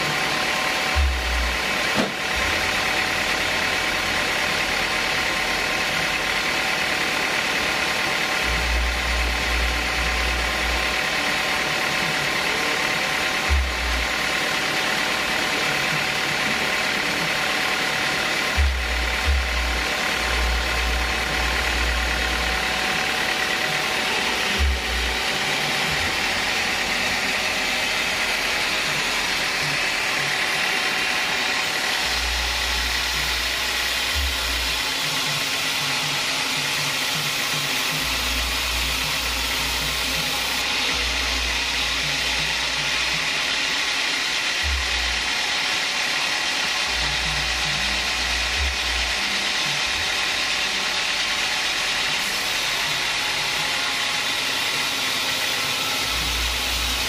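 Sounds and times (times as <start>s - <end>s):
band sawmill whirring: 0.0s - 57.0s.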